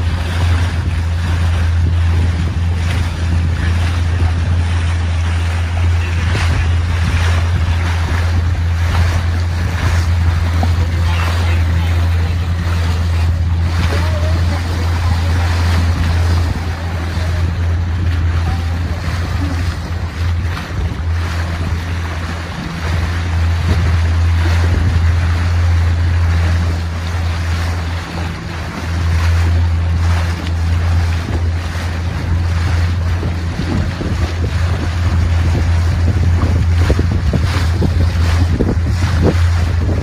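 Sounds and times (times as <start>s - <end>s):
boat motor droning: 0.0s - 40.0s
water splashing along hull: 0.0s - 40.0s
wind buffeting microphone: 0.0s - 40.0s.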